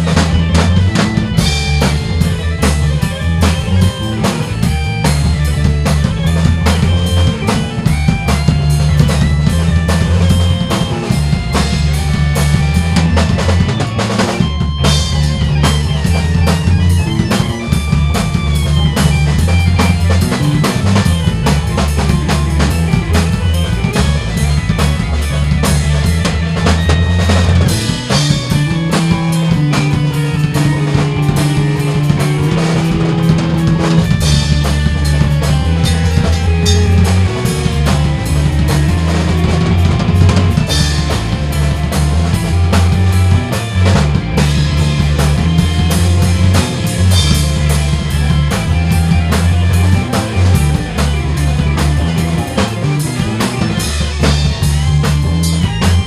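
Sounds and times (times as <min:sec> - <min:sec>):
drum kit beat: 0:00.0 - 0:56.0
electric bass: 0:00.0 - 0:56.0
electric piano: 0:00.0 - 0:56.0
organ: 0:00.0 - 0:56.0.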